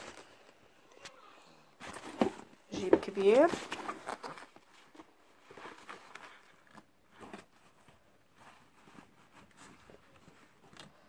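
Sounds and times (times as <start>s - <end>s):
fabric backpack rustling: 1.8s - 11.0s.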